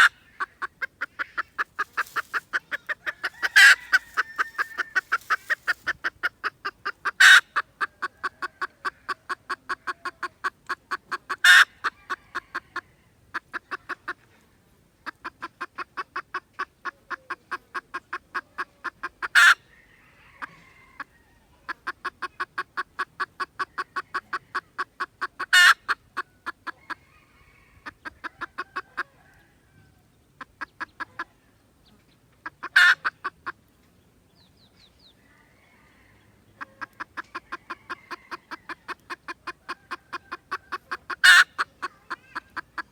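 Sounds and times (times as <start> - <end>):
junglefowl clucking: 0.0 - 14.4, 15.0 - 33.6, 35.3 - 42.9.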